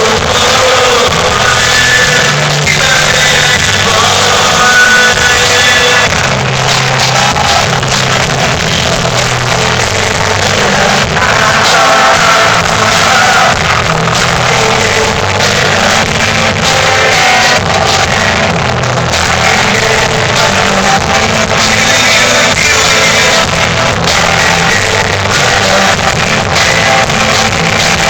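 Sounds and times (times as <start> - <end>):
live rock band with singer: 0.0 - 28.0.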